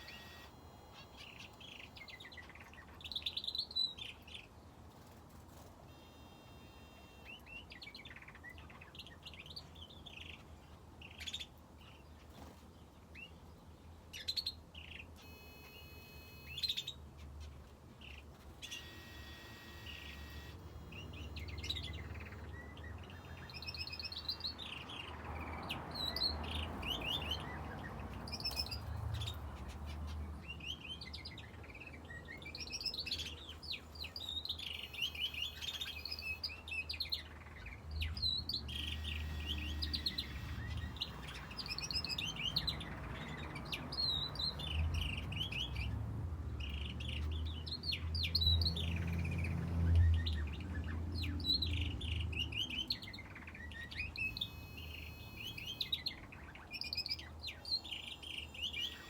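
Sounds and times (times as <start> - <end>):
finches and canary chirping: 0.0 - 59.0.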